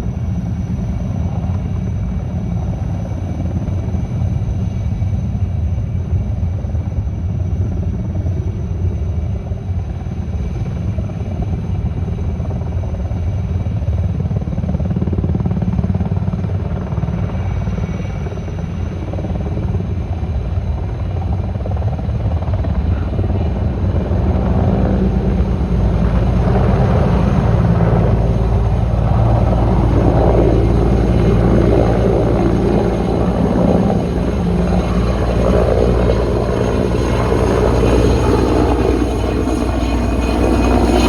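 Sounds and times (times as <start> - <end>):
helicopter engine rumble: 0.0 - 41.0
helicopter rotor beat: 0.0 - 41.0.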